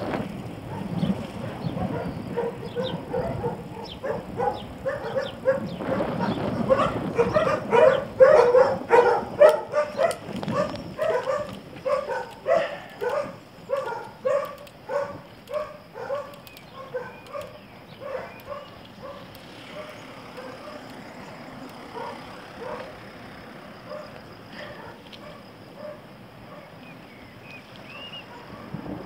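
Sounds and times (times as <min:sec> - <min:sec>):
dog barking: 0:00.6 - 0:20.9, 0:21.9 - 0:23.0, 0:23.9 - 0:26.8, 0:28.2 - 0:28.8.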